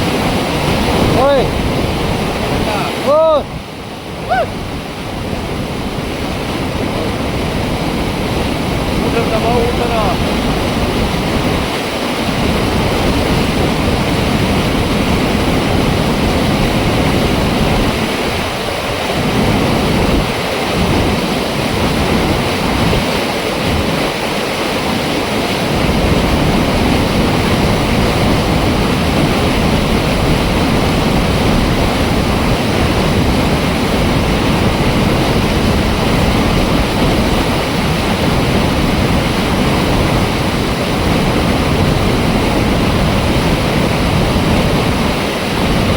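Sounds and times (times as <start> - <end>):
water rushing through dam gate: 0.0 - 45.9.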